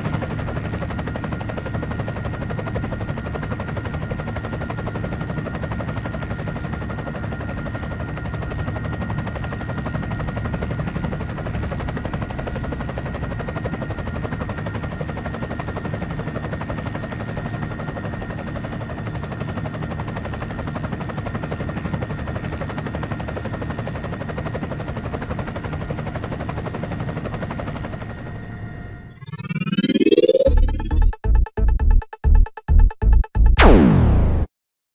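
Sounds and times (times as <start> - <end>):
helicopter rotor and engine: 0.0 - 31.0.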